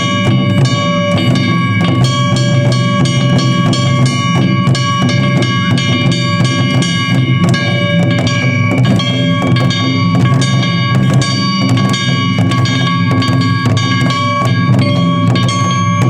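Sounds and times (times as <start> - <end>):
rapid drum strikes: 0.0 - 16.0
sustained ringing tones: 0.0 - 16.0.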